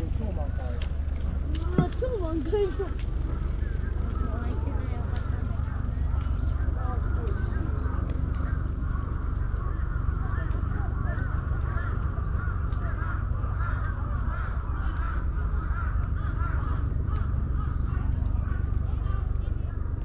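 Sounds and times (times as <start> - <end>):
many birds chattering: 0.0 - 20.0
steady low rumble: 0.0 - 20.0.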